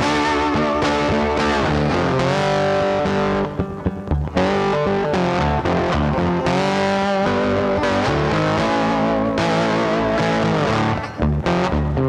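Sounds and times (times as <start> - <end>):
electric guitar and bass music: 0.0 - 12.0.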